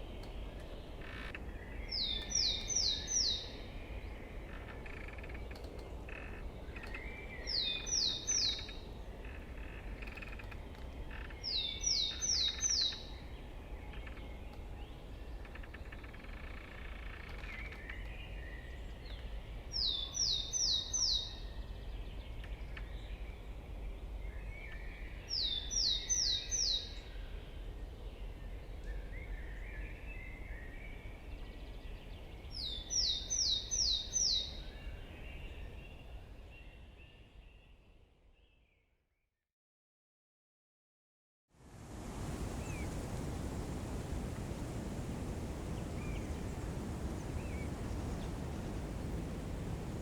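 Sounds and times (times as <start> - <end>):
wind rumbling through trees: 0.0 - 38.6, 41.5 - 50.0.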